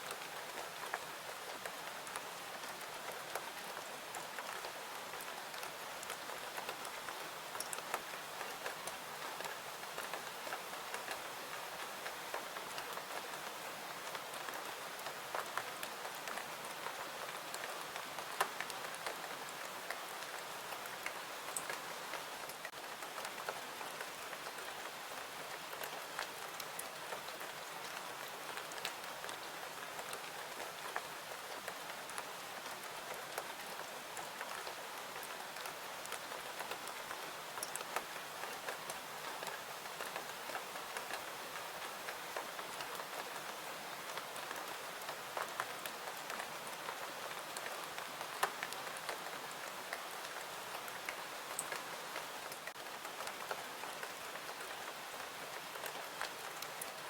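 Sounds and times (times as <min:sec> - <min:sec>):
sharp ticks of raindrops: 0:00.0 - 0:57.0
steady rain falling: 0:00.0 - 0:57.0.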